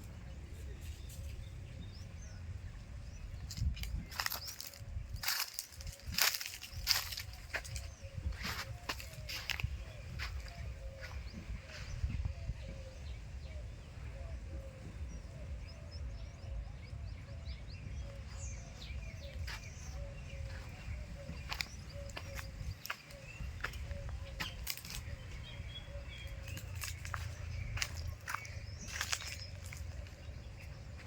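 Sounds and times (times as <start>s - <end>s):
birds chirping: 0.0s - 31.0s
wind on microphone: 1.1s - 31.0s.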